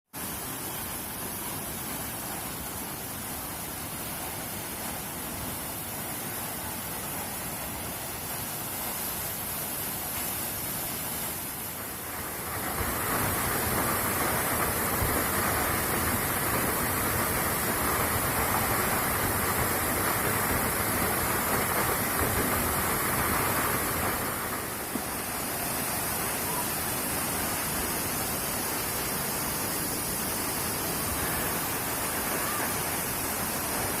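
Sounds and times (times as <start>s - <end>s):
waterfall roaring: 0.2s - 34.0s.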